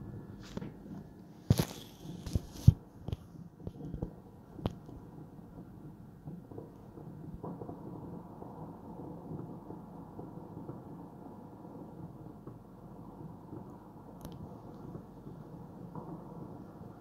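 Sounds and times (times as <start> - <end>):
distant fireworks booming: 0.0 - 17.0.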